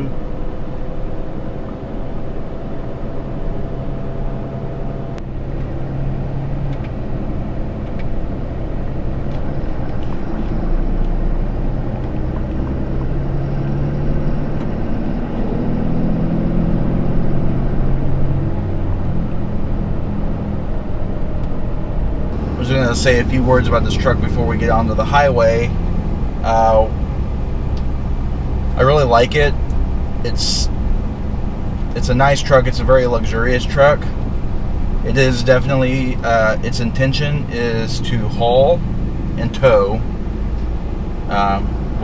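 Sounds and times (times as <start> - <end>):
diesel truck engine driving: 0.0 - 42.0
road noise: 0.0 - 42.0.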